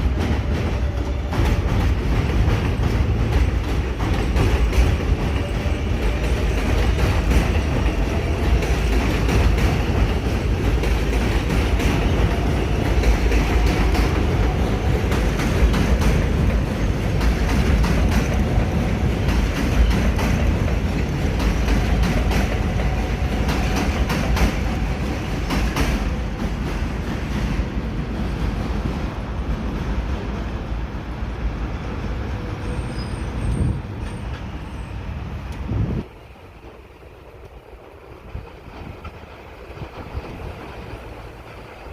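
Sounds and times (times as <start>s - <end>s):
subway train wheels clacking: 0.0s - 41.9s
train rumble: 0.0s - 41.9s.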